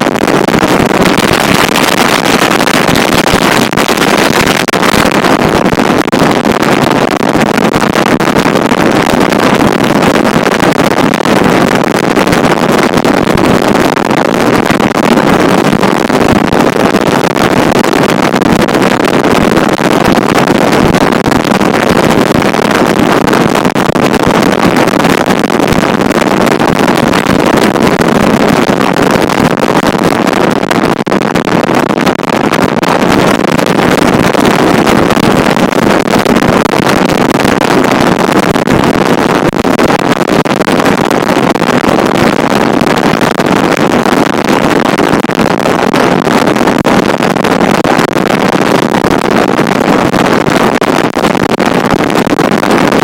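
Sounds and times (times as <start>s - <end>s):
wind noise on microphone: 0.0s - 53.0s.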